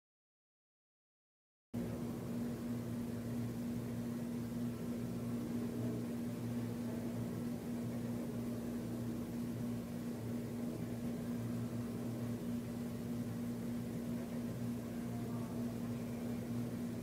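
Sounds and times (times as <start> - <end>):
machine low hum: 1.8 - 17.0.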